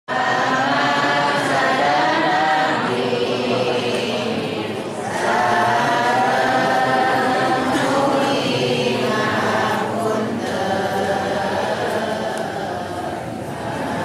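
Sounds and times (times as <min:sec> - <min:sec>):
group chanting in unison: 0:00.1 - 0:14.0.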